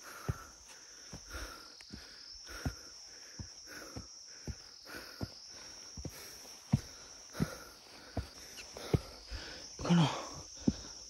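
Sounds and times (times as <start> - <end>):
footsteps thudding on trail: 0.0 - 11.0
forest insects droning: 0.0 - 11.0
person breathing hard: 0.0 - 11.0.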